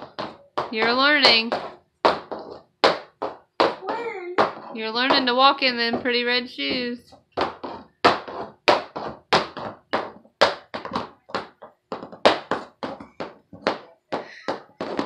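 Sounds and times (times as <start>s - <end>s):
high heels knocking on wooden floor: 0.0s - 15.0s.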